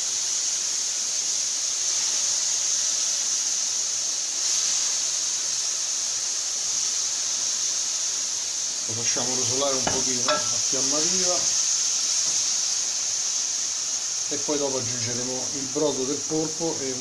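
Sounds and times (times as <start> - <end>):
food sizzling in hot pan: 0.0 - 17.0.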